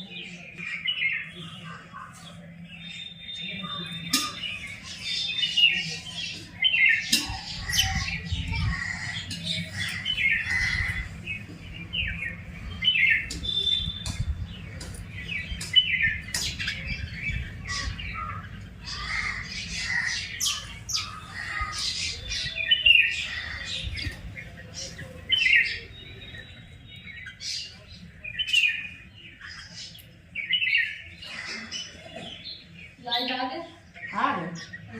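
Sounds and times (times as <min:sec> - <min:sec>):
birds chirping and squawking: 0:00.0 - 0:34.9.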